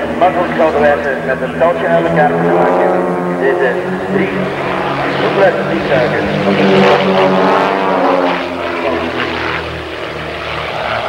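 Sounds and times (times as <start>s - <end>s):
propeller planes droning overhead: 0.0s - 11.0s.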